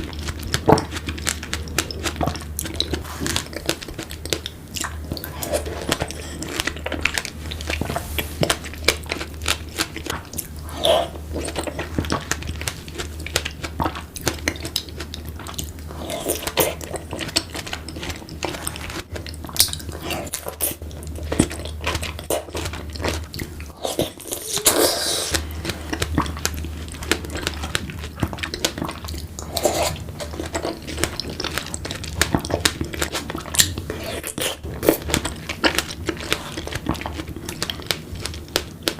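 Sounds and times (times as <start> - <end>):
low steady hum: 0.0 - 38.9
wet chewing and biting: 0.0 - 38.9.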